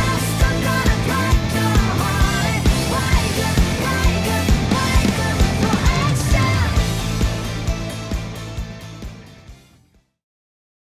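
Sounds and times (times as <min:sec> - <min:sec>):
background music with steady beat: 0:00.0 - 0:09.8.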